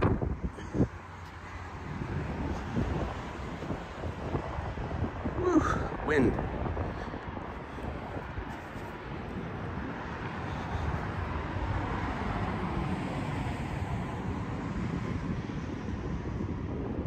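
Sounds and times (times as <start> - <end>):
passing engine drone: 0.0 - 17.0
wind rumbling on microphone: 0.0 - 17.0.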